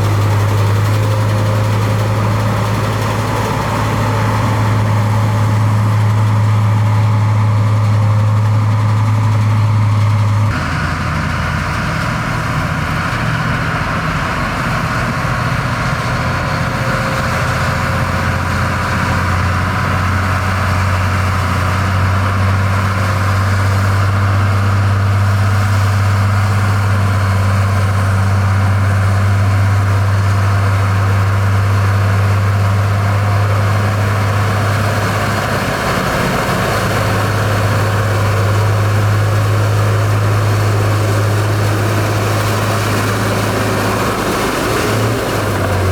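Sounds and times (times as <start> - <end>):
heavy diesel engine humming: 0.0 - 45.9.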